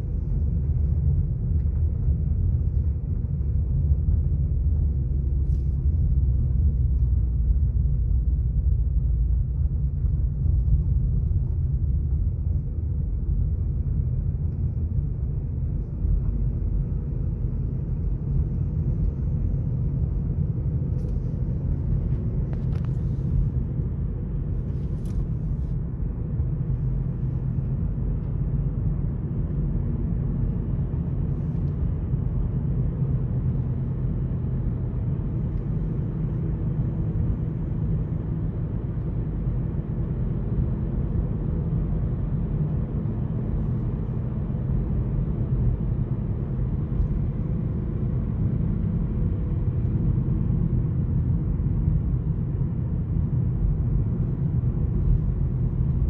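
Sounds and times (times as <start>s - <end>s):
car tyres and engine rumble inside cabin: 0.0s - 56.0s.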